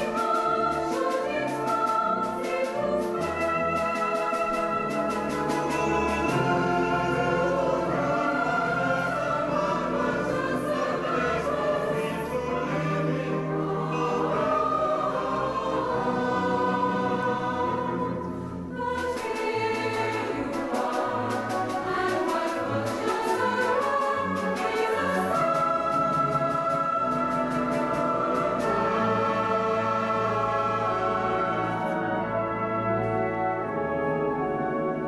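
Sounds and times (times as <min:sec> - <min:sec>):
mixed choir singing: 0:00.0 - 0:34.0
instrumental accompaniment: 0:00.0 - 0:35.0.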